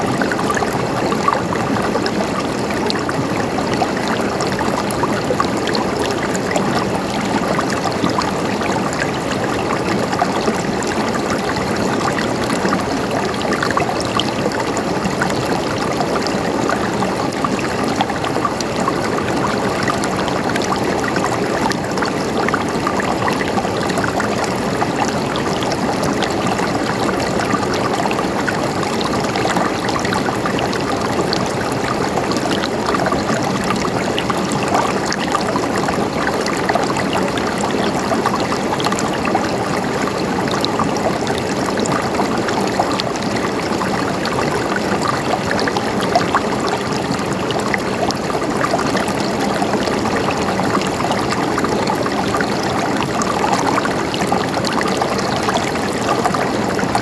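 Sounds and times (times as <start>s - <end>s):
stream gurgling over rocks: 0.0s - 57.0s.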